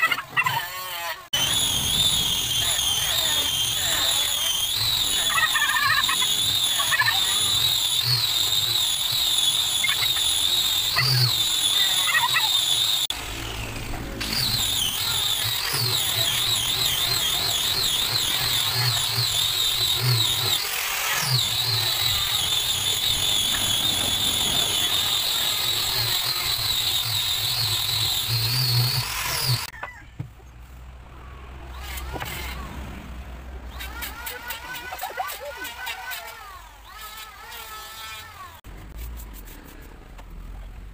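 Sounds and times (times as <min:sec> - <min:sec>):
angle grinder sanding wood: 0:00.0 - 0:29.7, 0:31.7 - 0:32.7, 0:33.7 - 0:39.8.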